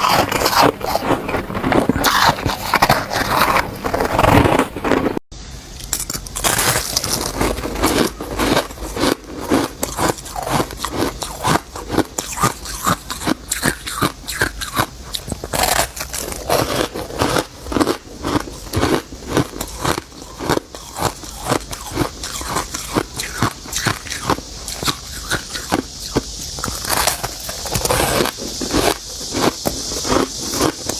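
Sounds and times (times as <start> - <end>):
ice being crunched by chewing: 0.0 - 5.2, 5.8 - 30.9.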